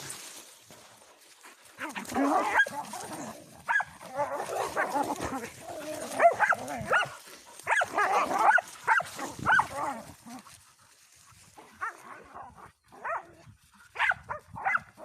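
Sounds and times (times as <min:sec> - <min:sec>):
dogs barking and yelping: 0:01.7 - 0:10.7, 0:11.4 - 0:15.0.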